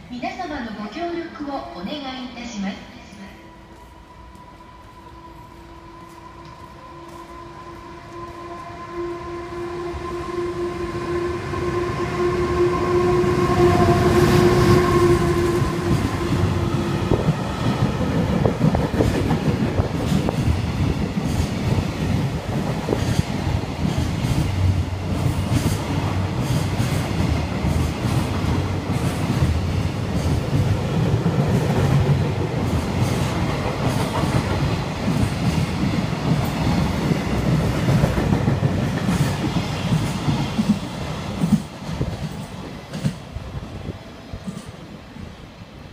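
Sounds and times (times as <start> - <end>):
freight train rumbling past: 2.8 - 45.9.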